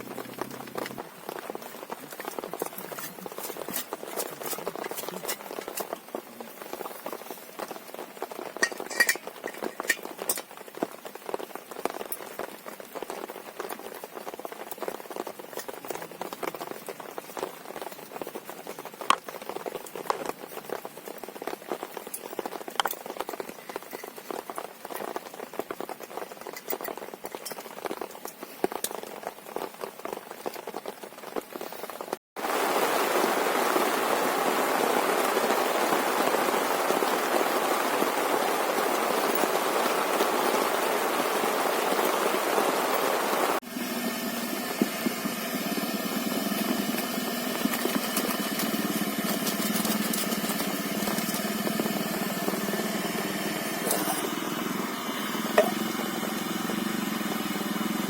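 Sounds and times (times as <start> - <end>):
heavy rain hiss: 0.0 - 58.0
rain pattering: 0.0 - 58.0.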